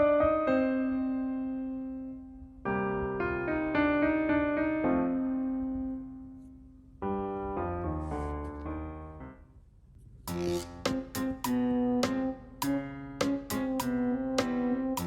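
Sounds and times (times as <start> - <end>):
gentle piano chords: 0.0 - 9.7, 10.3 - 15.0.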